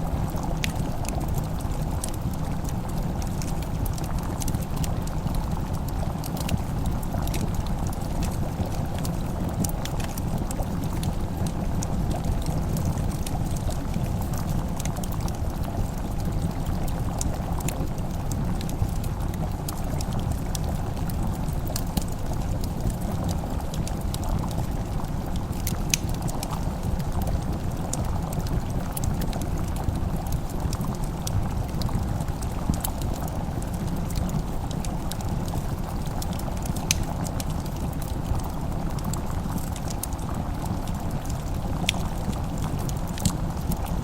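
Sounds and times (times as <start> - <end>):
pot simmering: 0.0 - 44.0
wood fire crackling: 0.0 - 44.0.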